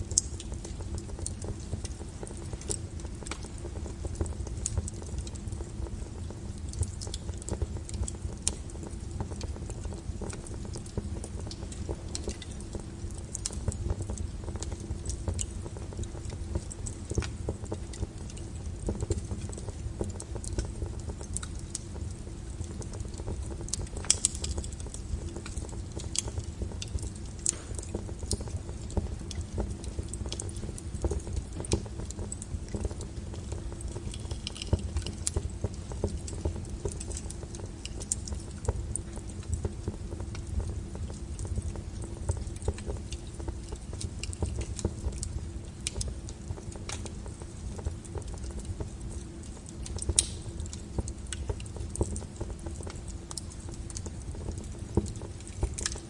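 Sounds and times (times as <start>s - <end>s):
low steady rumble: 0.0s - 56.0s
wood fire crackling and popping: 0.0s - 56.0s.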